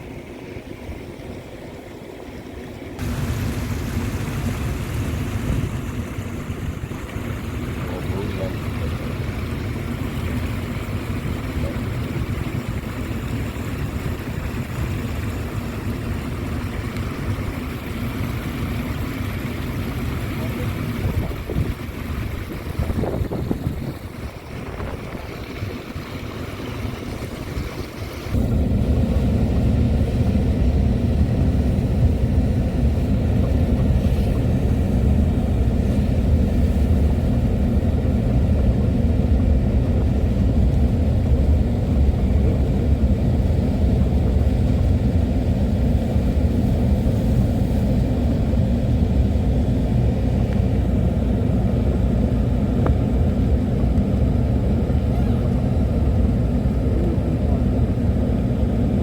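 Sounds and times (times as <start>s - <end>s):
car driving rumble: 3.0s - 59.0s.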